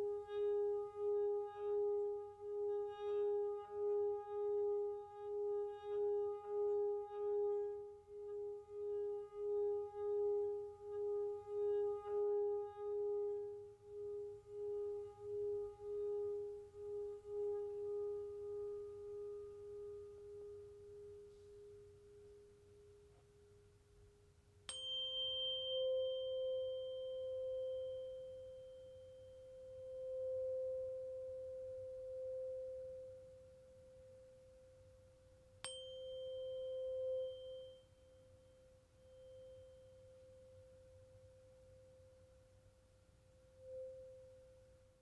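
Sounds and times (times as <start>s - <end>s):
tuning fork ringing tone: 0.0s - 23.5s, 24.7s - 45.0s
tuning fork struck: 0.0s - 23.8s, 24.6s - 45.0s.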